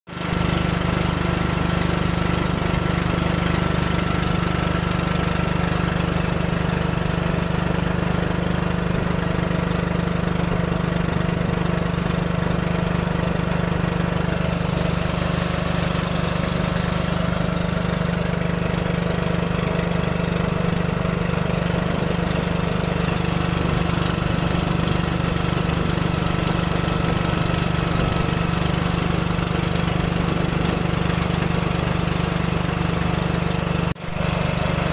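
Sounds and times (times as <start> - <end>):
small boat engine running: 0.1 - 34.9.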